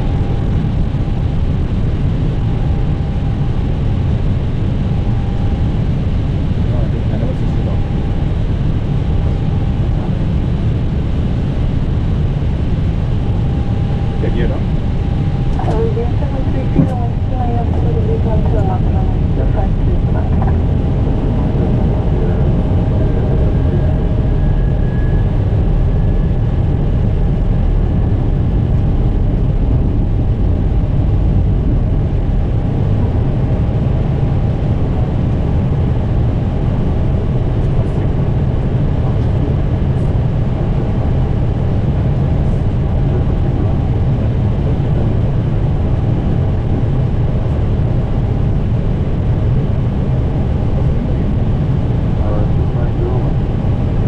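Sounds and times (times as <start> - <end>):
airflow and engine rumble: 0.0 - 54.0.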